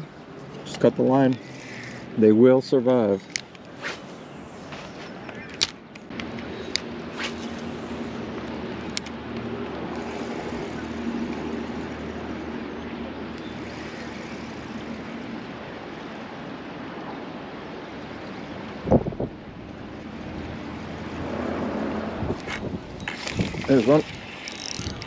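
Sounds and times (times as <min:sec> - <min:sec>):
water around a kayak: 0:00.0 - 0:25.0
wind: 0:00.0 - 0:25.0.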